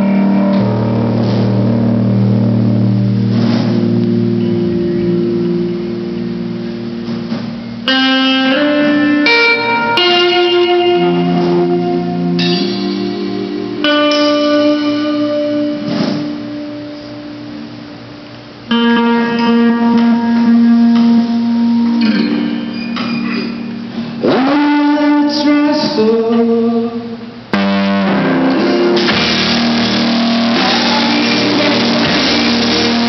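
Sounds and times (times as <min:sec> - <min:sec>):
electric guitar chords ringing: 0:00.0 - 0:33.0.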